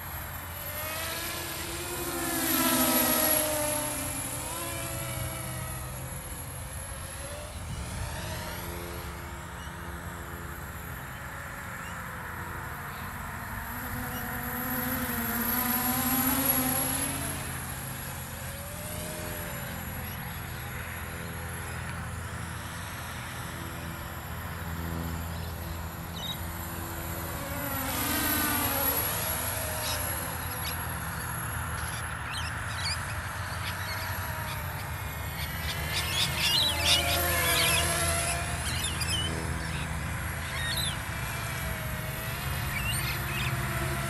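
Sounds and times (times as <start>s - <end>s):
quadcopter motors buzzing: 0.0s - 44.0s.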